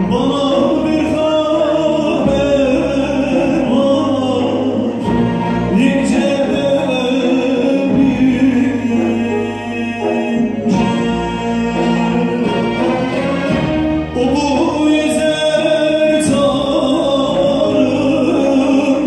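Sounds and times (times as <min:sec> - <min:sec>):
folk song singing: 0:00.0 - 0:19.0.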